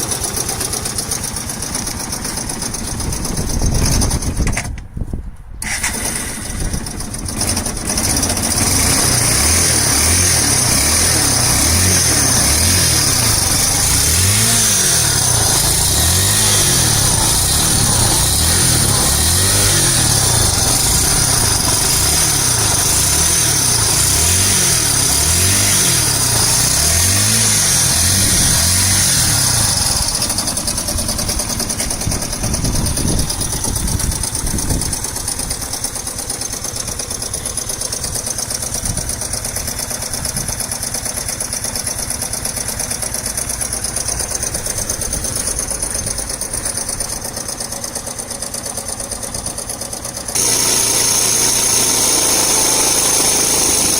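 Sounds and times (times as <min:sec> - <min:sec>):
motorcycle engine revving and idling: 0:00.0 - 0:53.9.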